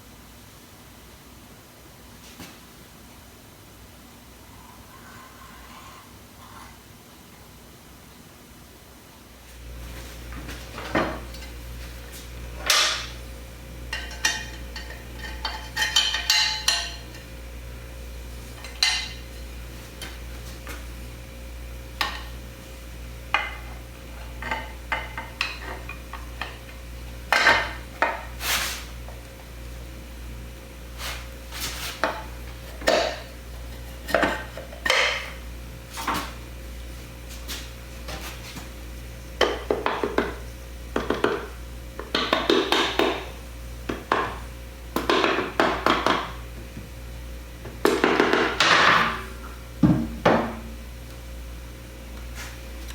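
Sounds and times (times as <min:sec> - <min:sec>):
steady low hum: 0:09.4 - 0:52.9.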